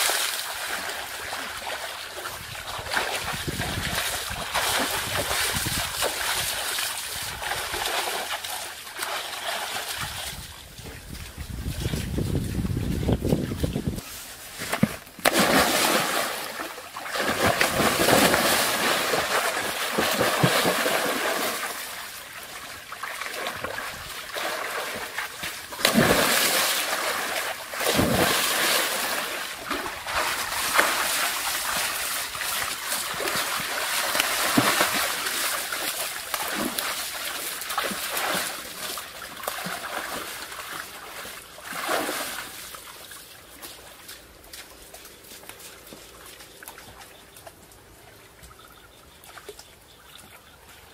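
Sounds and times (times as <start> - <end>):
ducks splashing in muddy water: 0.0 - 50.9.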